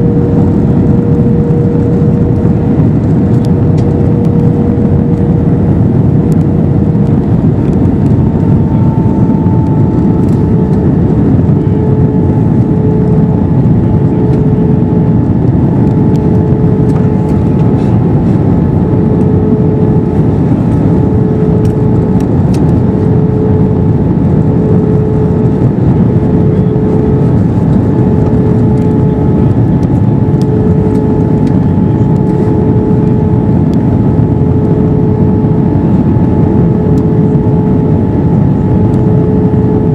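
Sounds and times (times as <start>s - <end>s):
airplane cabin engine noise: 0.0s - 39.9s
pulsing humming tone: 0.0s - 39.9s.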